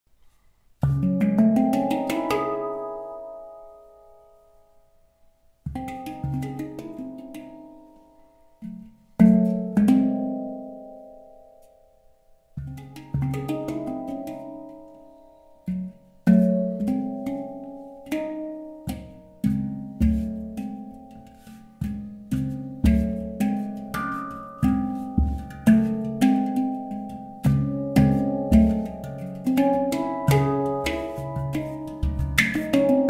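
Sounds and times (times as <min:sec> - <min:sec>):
handpan notes ringing: 0:00.8 - 0:33.0.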